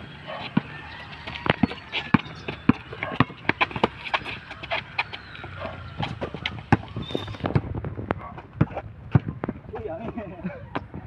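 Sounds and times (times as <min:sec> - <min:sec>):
basketball bouncing on concrete: 0:00.0 - 0:11.0
sneakers scuffing on pavement: 0:00.2 - 0:11.0.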